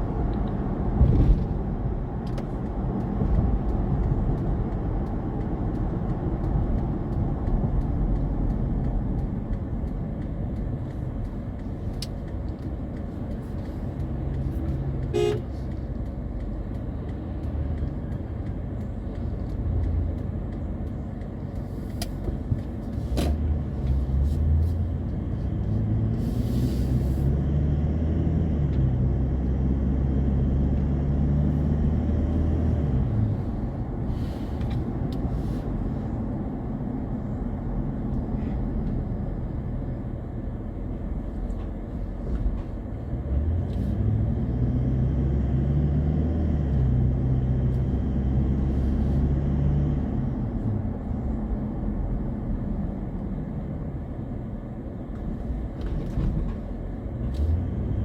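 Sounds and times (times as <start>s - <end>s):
car engine hum: 0.0s - 58.0s
road noise: 0.0s - 58.0s.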